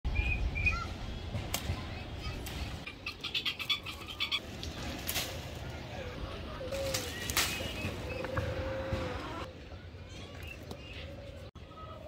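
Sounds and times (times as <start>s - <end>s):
small birds chirping: 0.1s - 5.0s, 5.7s - 12.0s.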